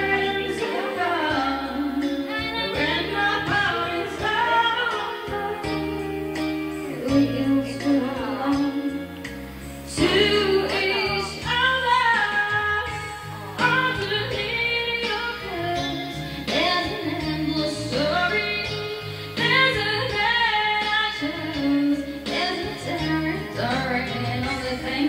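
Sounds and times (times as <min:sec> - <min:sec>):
instrumental accompaniment with guitar: 0:00.0 - 0:25.0
woman singing into microphone: 0:00.0 - 0:25.0.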